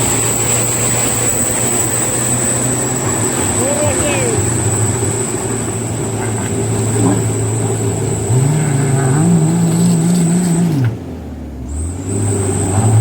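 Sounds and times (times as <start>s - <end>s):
truck diesel engine under load: 0.0s - 13.0s.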